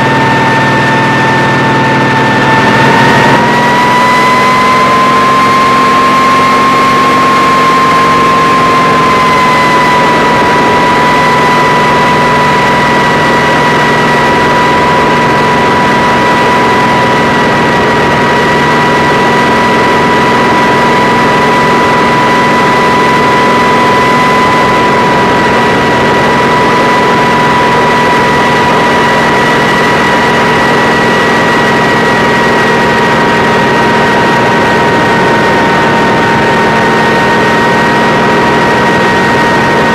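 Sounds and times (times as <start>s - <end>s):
helicopter engines running: 0.0s - 39.9s
loud high whine: 0.0s - 39.9s.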